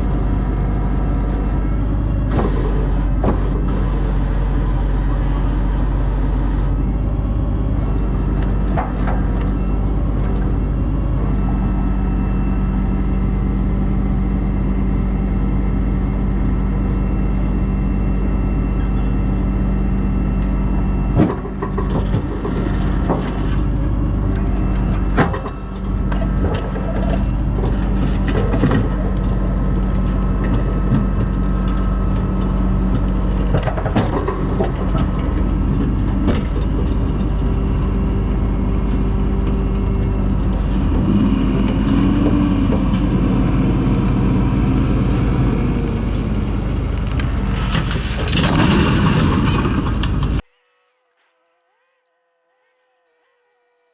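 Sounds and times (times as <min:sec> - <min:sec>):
truck engine running: 0:00.0 - 0:21.2, 0:21.8 - 0:50.4.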